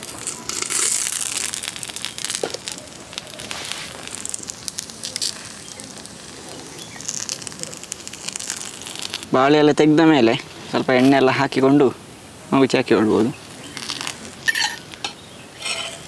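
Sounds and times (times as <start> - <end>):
wood fire crackling and popping: 0.0 - 11.6, 12.9 - 16.0
leaf crinkling: 0.0 - 11.8, 12.4 - 16.0.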